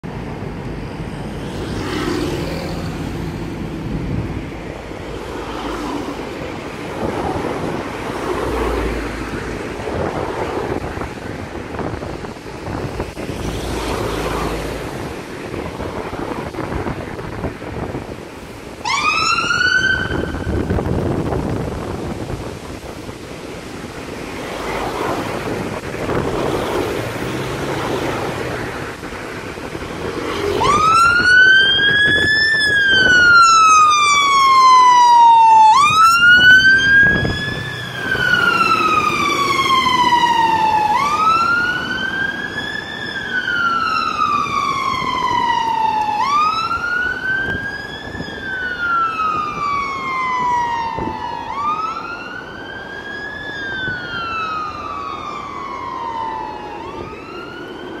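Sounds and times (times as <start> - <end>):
passing traffic: 0.0 - 58.0
wind noise: 0.0 - 58.0
fire truck siren wailing: 1.8 - 58.0.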